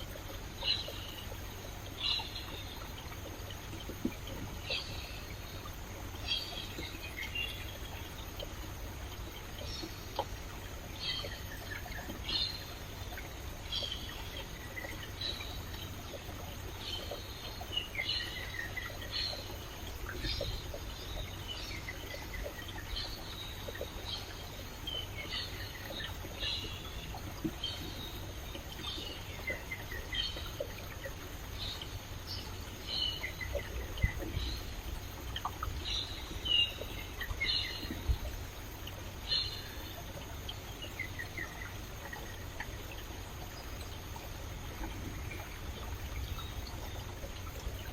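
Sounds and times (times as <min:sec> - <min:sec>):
stream water flowing: 0:00.0 - 0:47.9
birds chirping: 0:00.3 - 0:47.9.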